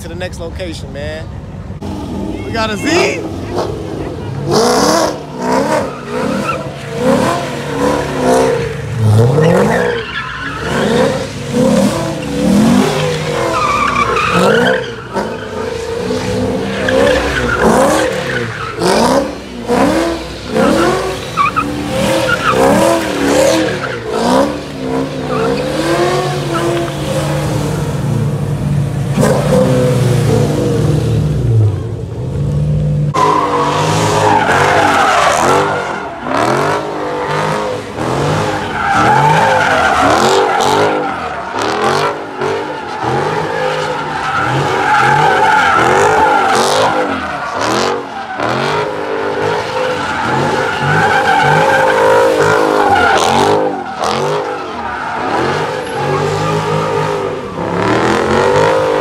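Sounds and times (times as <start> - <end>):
car tires squealing: 2.2 - 27.9, 33.1 - 59.0.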